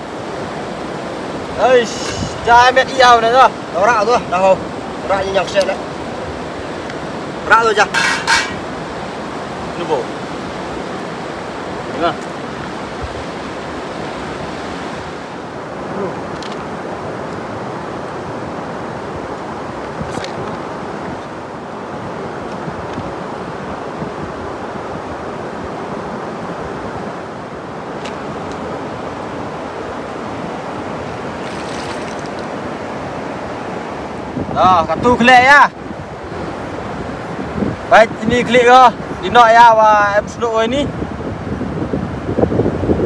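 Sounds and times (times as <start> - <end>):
river rushing over rocks: 0.0 - 41.2.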